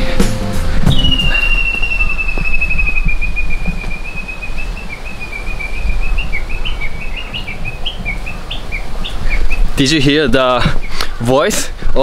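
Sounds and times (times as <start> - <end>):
wind rumble on microphone: 0.6 - 11.0
songbird singing: 0.8 - 12.0.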